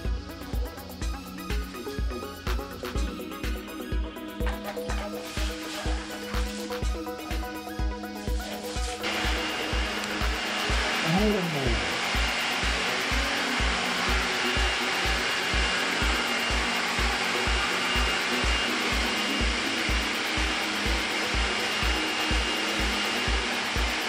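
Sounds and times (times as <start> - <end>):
music with thumping beat: 0.0 - 24.0
pet dryer blowing air: 0.0 - 24.0.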